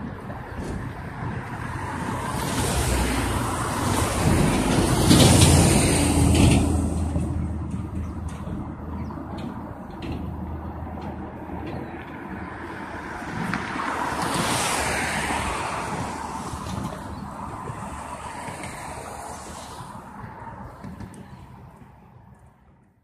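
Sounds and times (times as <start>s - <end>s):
vehicle passing: 0.0s - 22.3s.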